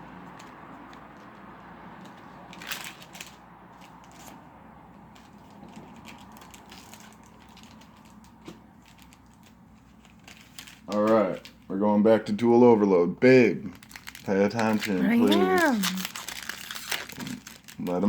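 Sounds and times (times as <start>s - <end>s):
cards and wrappers rustling: 0.1s - 12.4s, 13.6s - 18.0s.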